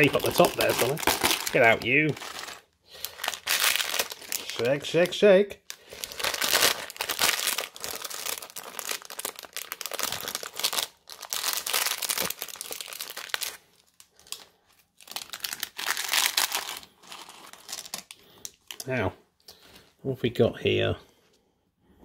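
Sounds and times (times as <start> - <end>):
plastic packet crinkling: 0.0 - 18.9.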